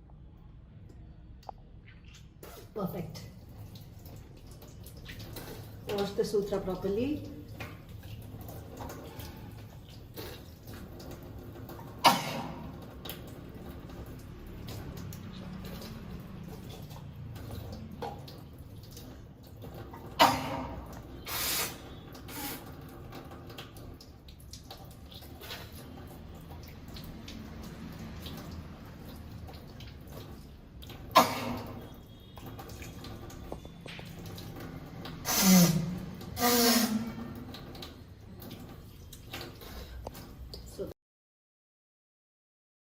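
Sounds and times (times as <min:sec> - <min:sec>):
water dripping: 0:00.1 - 0:41.0
water running from tap: 0:02.1 - 0:40.9.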